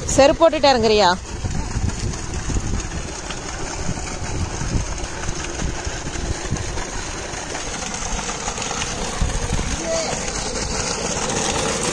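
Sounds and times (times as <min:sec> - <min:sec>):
pump engine running: 0:00.0 - 0:11.9
water pouring into tank: 0:01.2 - 0:11.9.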